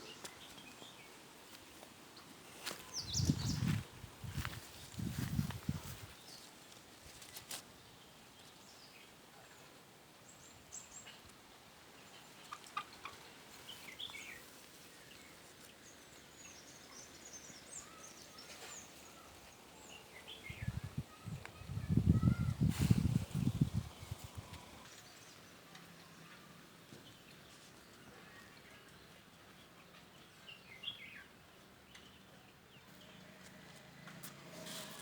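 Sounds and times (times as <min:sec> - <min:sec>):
small birds chirping: 0:00.0 - 0:33.3.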